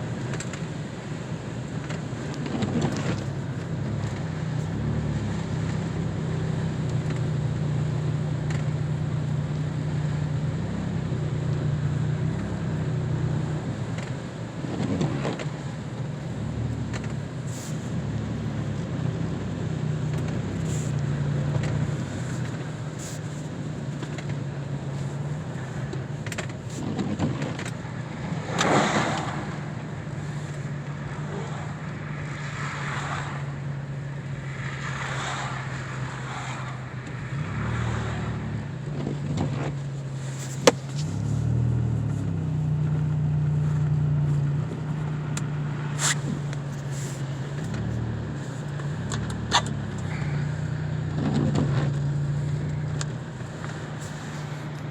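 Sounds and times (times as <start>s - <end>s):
car engine and road hum: 0.0s - 54.9s.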